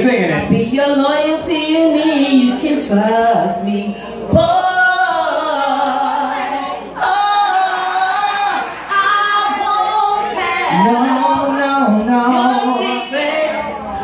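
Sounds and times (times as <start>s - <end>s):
woman singing karaoke into microphone: 0.0s - 14.0s.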